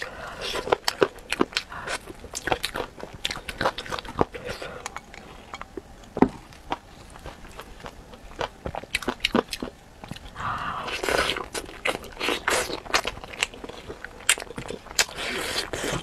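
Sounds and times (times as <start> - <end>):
chewing and biting with snaps: 0.0 - 16.0.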